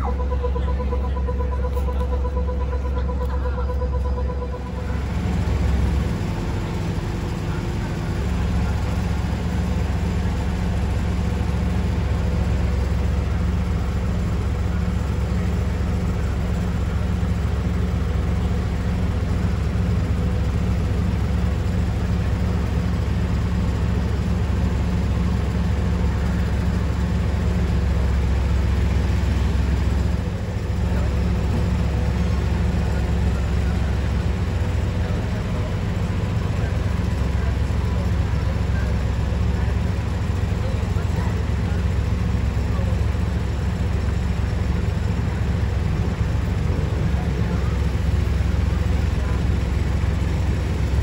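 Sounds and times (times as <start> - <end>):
tram humming: 0.0 - 51.0.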